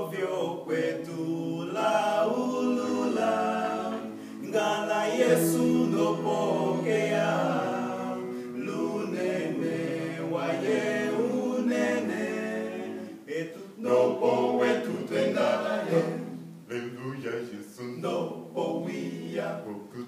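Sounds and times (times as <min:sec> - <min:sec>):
male vocal group singing a cappella: 0:00.0 - 0:20.0.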